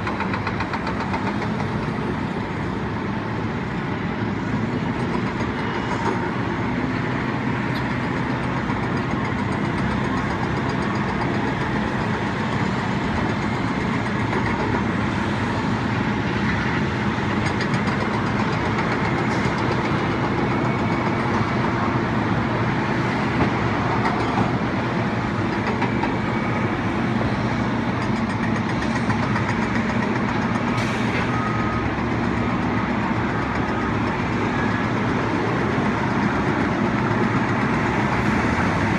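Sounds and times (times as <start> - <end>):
vehicle running rumble: 0.0 - 38.9.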